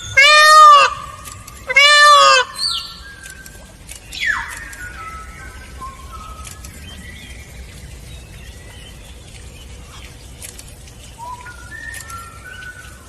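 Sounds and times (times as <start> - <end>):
birds whistling: 0.0 - 13.0
low background noise: 0.0 - 13.0.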